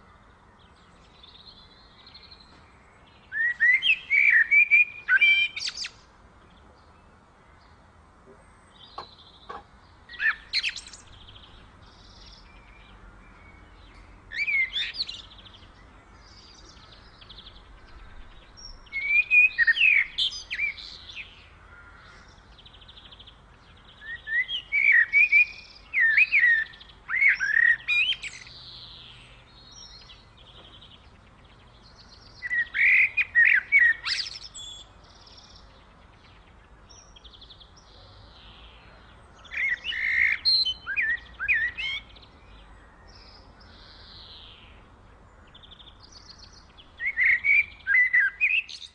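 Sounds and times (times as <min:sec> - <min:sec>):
songbird singing sliding chirps: 0:00.0 - 0:48.9.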